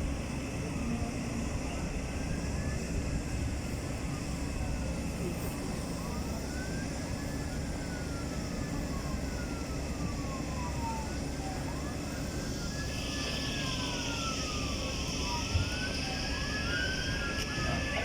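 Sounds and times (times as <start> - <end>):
sirens wailing: 1.2 - 18.0.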